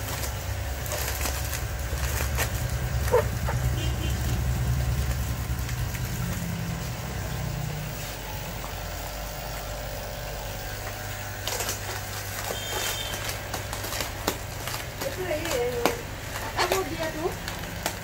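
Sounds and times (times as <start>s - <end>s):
steady low hum: 0.0s - 17.8s
plastic bag crinkling: 0.0s - 18.0s.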